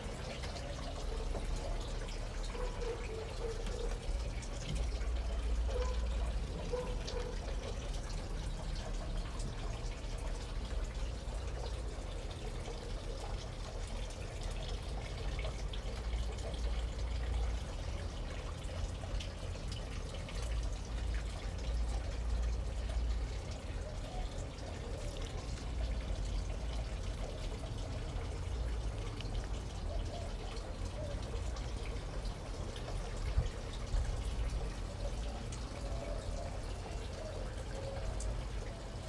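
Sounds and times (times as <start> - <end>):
water trickling and dripping: 0.0 - 39.0.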